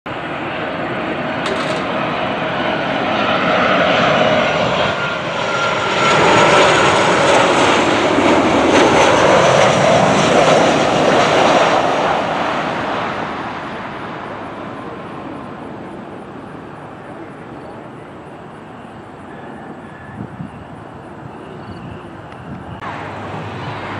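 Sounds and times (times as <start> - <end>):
jet engine whine: 0.1 - 23.9.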